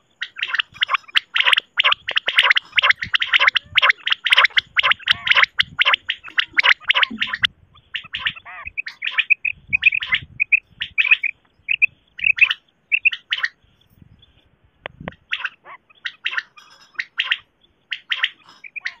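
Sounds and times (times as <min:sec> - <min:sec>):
quail calling: 0:00.0 - 0:14.0, 0:14.9 - 0:19.0.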